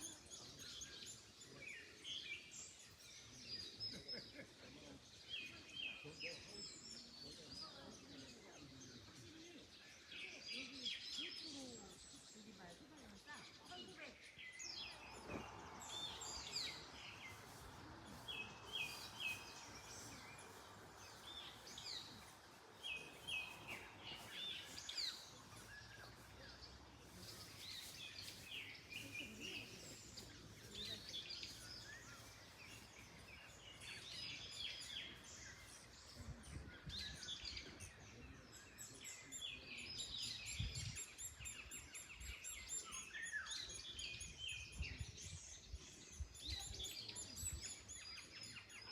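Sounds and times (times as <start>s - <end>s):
songbirds chirping and singing: 0.0s - 48.9s
wind in trees: 0.0s - 48.9s.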